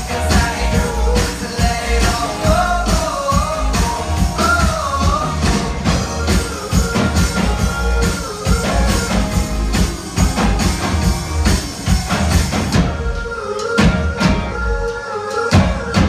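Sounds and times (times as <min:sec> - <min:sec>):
electric guitar chords: 0:00.0 - 0:14.8
keyboard chords: 0:00.0 - 0:16.0
steady drum-kit beat: 0:00.0 - 0:16.0.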